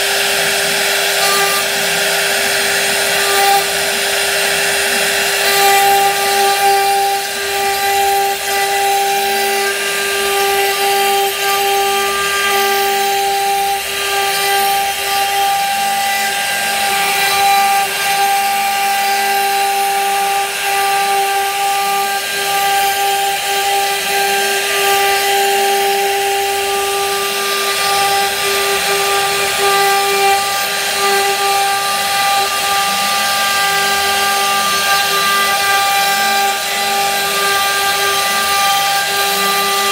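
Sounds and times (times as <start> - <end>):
bit cutting wood: 0.0 - 39.9
router spindle whine: 0.0 - 39.9.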